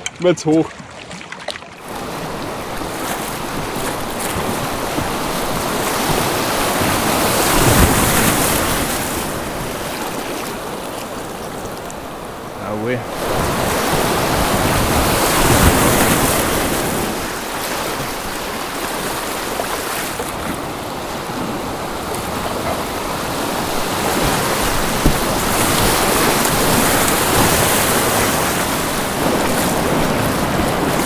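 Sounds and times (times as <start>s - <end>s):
whitewater rushing and splashing: 0.0s - 31.0s
wind buffeting microphone: 1.8s - 31.0s.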